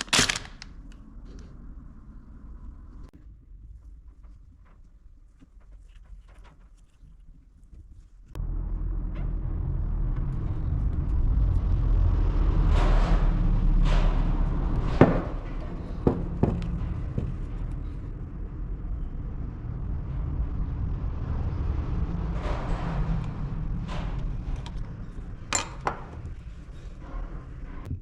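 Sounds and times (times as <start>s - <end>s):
steady low rumble: 0.0s - 6.4s, 8.3s - 28.0s.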